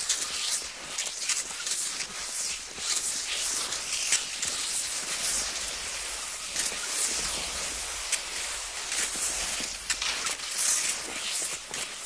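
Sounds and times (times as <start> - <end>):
skis swishing over snow: 0.1 - 12.0.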